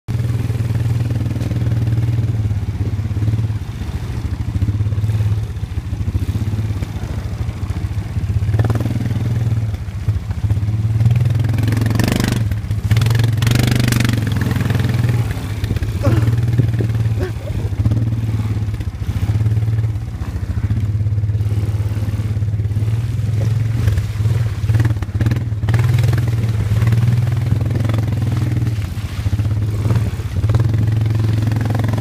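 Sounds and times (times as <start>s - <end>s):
atv engine droning: 0.1s - 32.0s.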